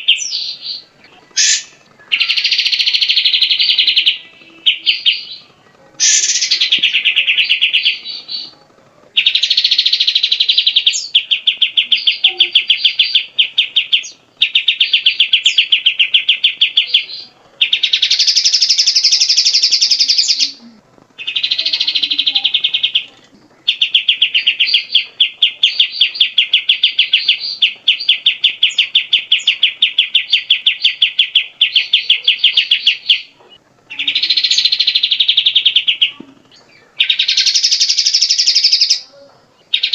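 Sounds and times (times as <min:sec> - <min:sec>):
bird singing rapid chattering phrases: 0:00.0 - 0:39.9.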